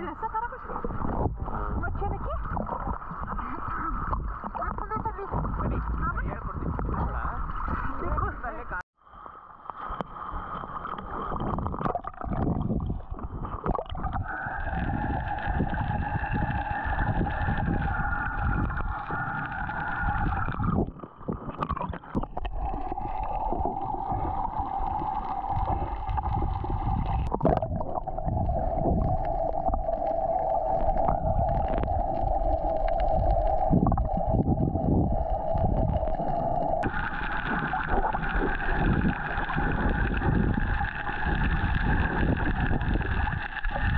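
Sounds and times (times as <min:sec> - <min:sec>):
wind noise: 0:00.0 - 0:08.6, 0:11.2 - 0:43.9
water: 0:00.0 - 0:43.9.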